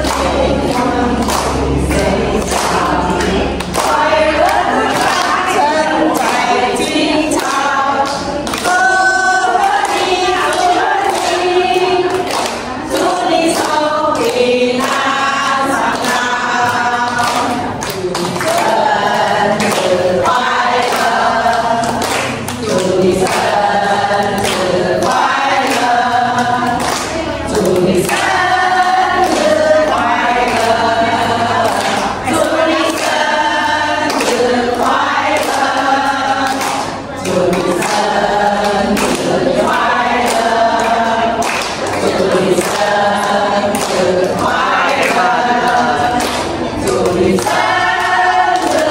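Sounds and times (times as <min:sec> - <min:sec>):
people clapping in time: 0:00.0 - 0:48.9
women singing together: 0:00.0 - 0:48.9.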